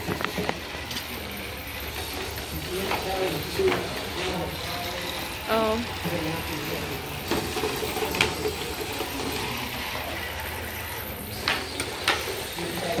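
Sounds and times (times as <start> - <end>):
robot motors whirring: 0.0 - 13.0.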